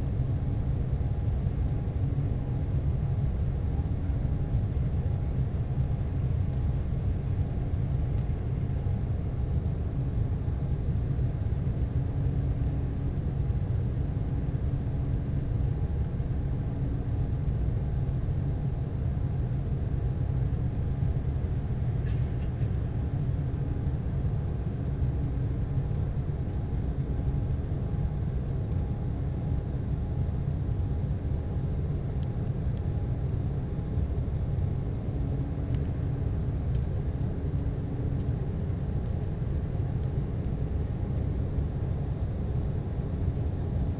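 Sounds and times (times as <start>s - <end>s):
airliner cabin engine roar: 0.0s - 43.9s
faint engine hums: 0.0s - 43.9s.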